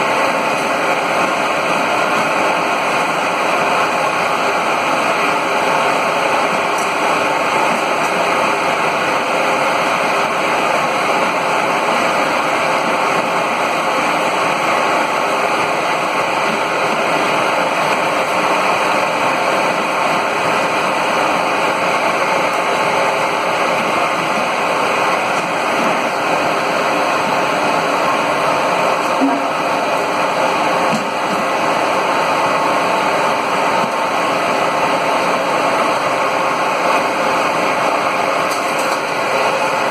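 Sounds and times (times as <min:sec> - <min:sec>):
steam boiler plant machinery hum: 0:00.0 - 0:39.9.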